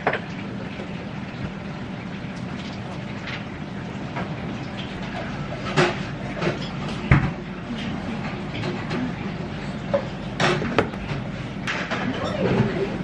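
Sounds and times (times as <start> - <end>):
restaurant room hum: 0.0 - 13.0.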